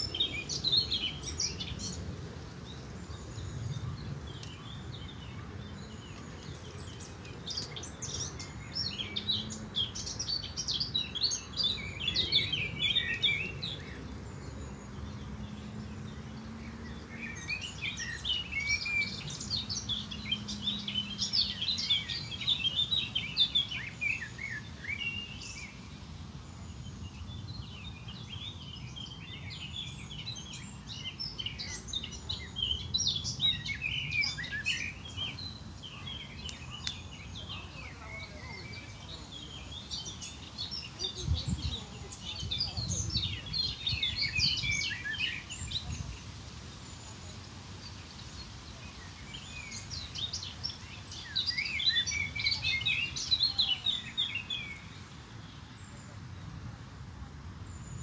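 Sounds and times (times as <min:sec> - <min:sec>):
birds chirping and singing: 0:00.0 - 0:56.1.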